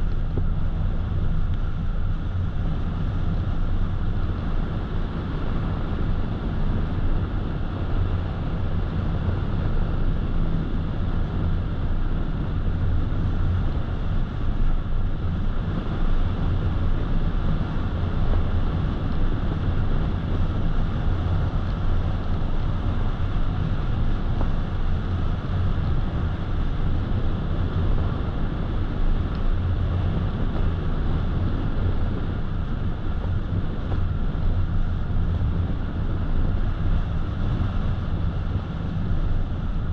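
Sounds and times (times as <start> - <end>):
wind rush over car: 0.0 - 39.9.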